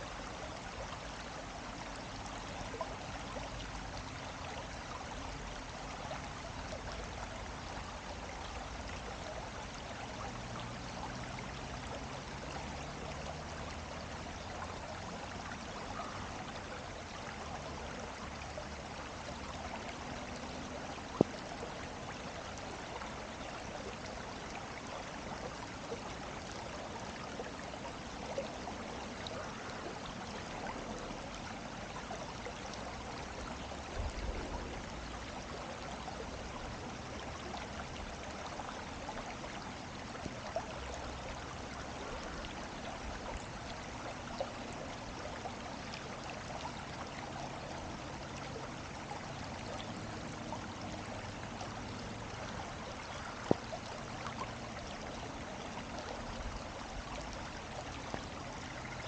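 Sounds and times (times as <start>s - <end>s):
water flowing: 0.0s - 59.0s.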